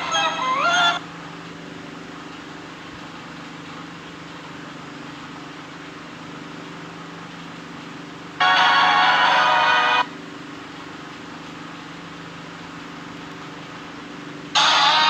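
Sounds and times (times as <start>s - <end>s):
low hum with fixed tones: 0.0s - 15.0s.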